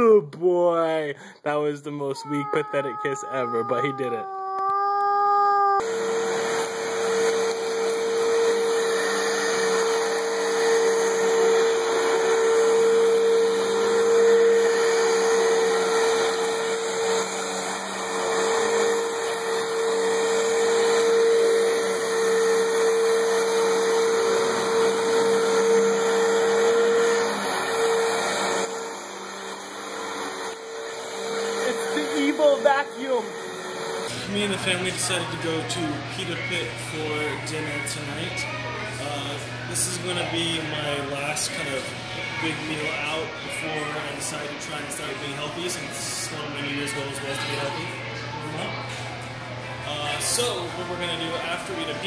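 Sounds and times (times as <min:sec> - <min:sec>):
vacuum cleaner running: 0:05.8 - 0:52.0.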